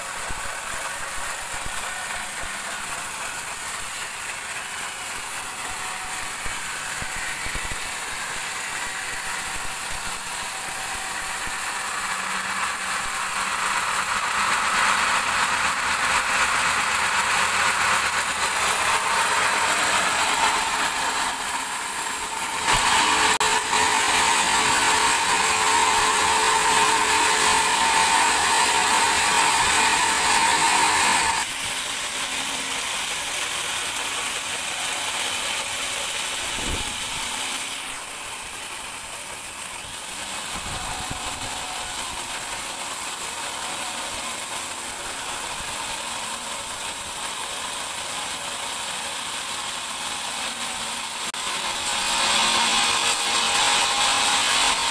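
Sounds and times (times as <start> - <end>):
band saw whining through log: 0.0 - 54.9
sawmill running noise: 0.0 - 54.9.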